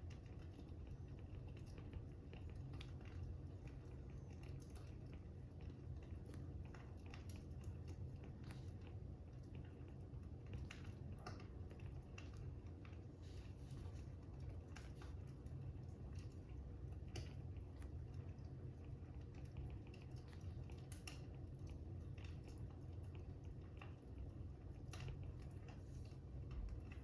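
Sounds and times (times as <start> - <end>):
fire crackling: 0.0 - 27.0
low steady rumble: 0.0 - 27.0.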